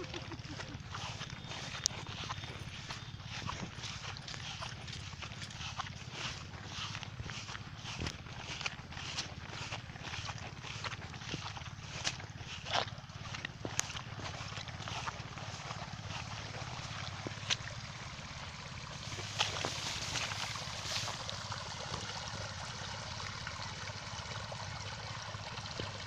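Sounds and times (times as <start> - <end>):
diesel pump engine running: 0.0 - 26.0
water rushing from pump: 0.0 - 26.0.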